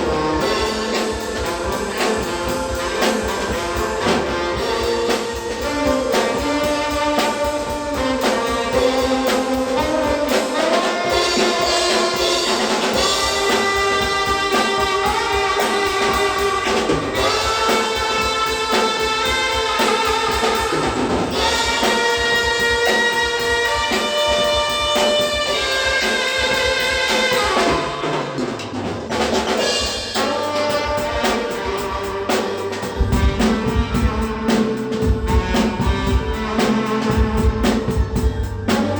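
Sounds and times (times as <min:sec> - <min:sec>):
tenor saxophone melody: 0:00.0 - 0:28.7, 0:29.6 - 0:38.9
drum kit beat: 0:00.0 - 0:38.9.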